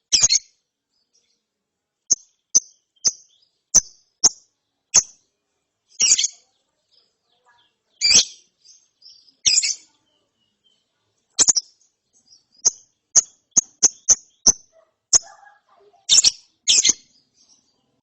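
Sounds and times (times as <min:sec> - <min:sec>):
lovebird high chirps: 0:00.0 - 0:00.5, 0:02.1 - 0:05.2, 0:05.9 - 0:10.8, 0:11.4 - 0:17.8.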